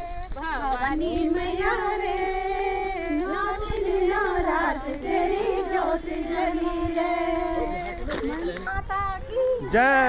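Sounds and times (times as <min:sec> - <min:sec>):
women singing devotional song: 0:00.3 - 0:09.6.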